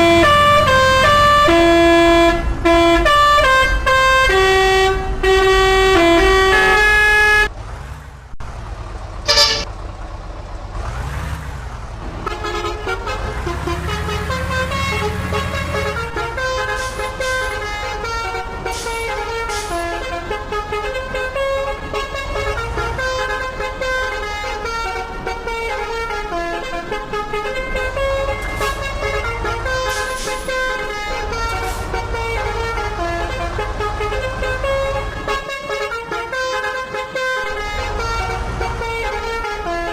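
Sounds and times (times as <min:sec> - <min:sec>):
multi-tone bus horn tune: 0:00.0 - 0:07.5, 0:09.2 - 0:09.7, 0:12.1 - 0:39.9
bus engine rumble: 0:00.0 - 0:39.9.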